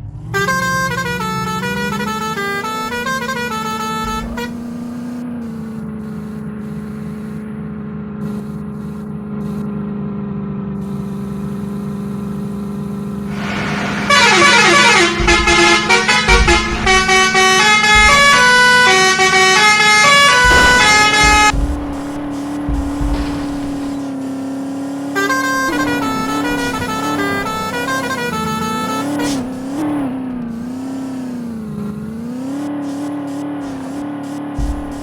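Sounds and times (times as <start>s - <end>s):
tractor musical horn tune: 0.2s - 7.6s, 10.8s - 31.5s, 34.6s - 35.0s.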